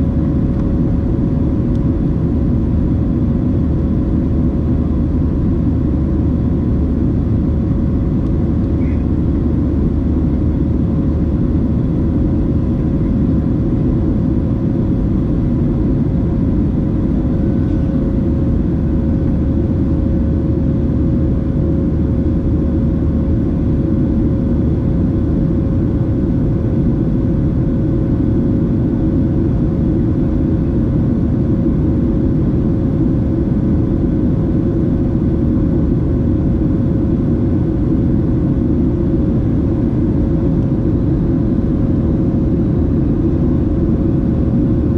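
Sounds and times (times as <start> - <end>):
airplane cabin rumble: 0.0 - 44.9
faint steady hum: 0.0 - 44.9.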